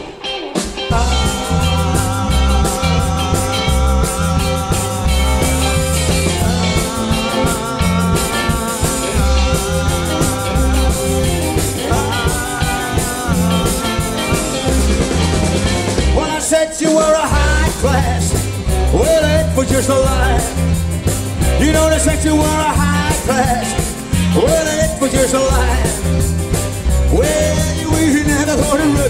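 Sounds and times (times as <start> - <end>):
bass guitar: 0.0 - 29.0
drum kit: 0.0 - 29.0
electric guitar lead: 0.0 - 29.0.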